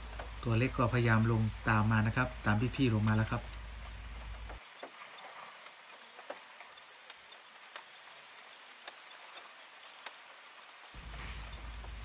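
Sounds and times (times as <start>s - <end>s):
rain hiss: 0.0s - 12.0s
raindrop ticks: 0.0s - 12.0s.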